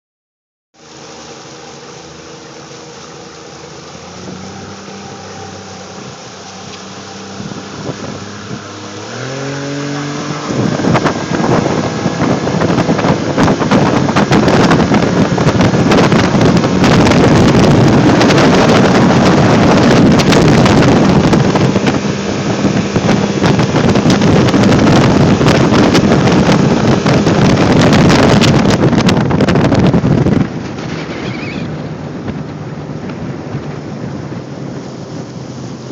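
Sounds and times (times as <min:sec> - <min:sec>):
outboard motor running: 0:00.8 - 0:35.9
wind buffeting microphone: 0:03.5 - 0:35.9.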